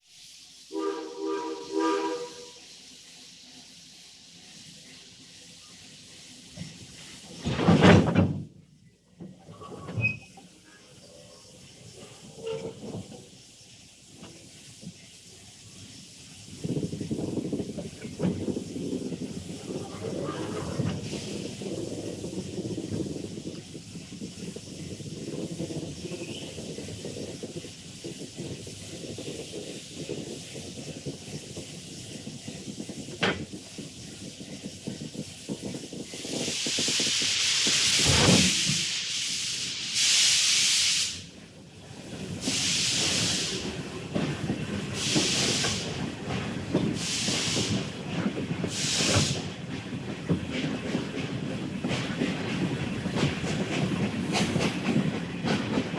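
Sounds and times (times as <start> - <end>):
steam hissing: 0.0 - 7.7, 10.0 - 55.9
steam locomotive rumble: 0.0 - 55.9.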